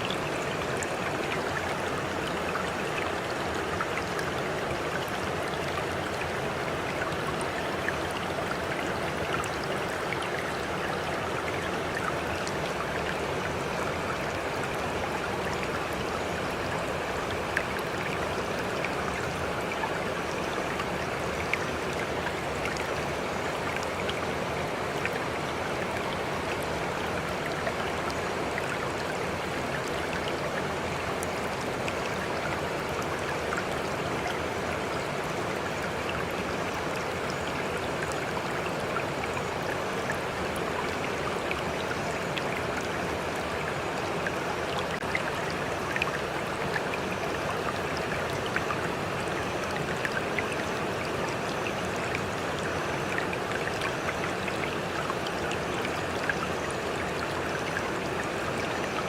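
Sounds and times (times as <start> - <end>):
water splashes and drips: 0.0 - 59.0.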